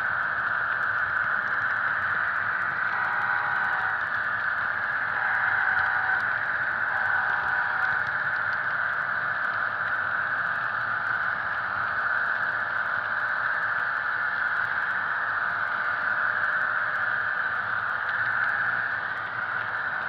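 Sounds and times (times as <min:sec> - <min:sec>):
model train diesel engine sound: 0:00.0 - 0:20.0.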